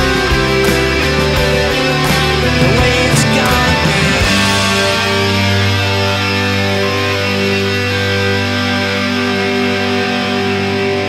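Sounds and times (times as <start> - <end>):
guitar rock music: 0.0 - 11.0.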